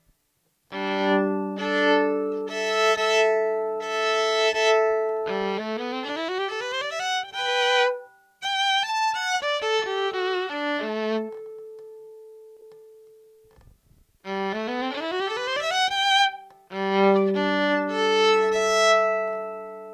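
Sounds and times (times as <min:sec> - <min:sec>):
electric violin bowed: 0:00.7 - 0:12.9, 0:14.2 - 0:19.9.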